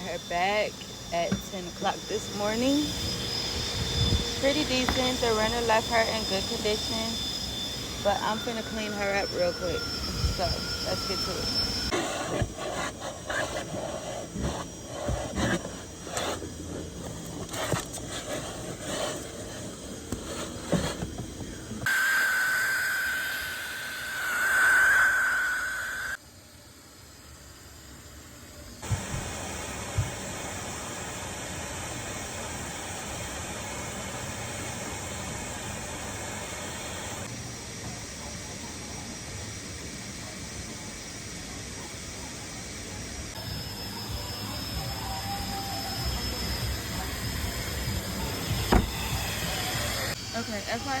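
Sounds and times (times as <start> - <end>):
high whine with hiss: 0.0 - 51.0.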